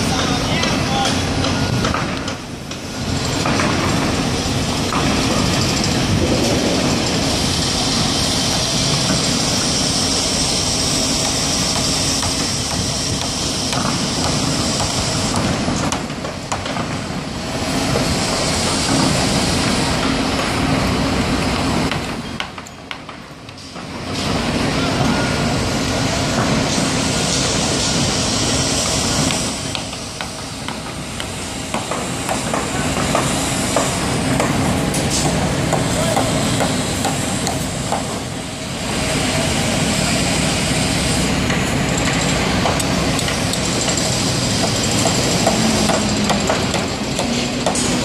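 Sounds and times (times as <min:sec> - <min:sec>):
machinery engine running: 0:02.9 - 0:22.4, 0:24.1 - 0:48.0
hiss: 0:04.3 - 0:16.0, 0:16.6 - 0:22.2, 0:23.6 - 0:48.0.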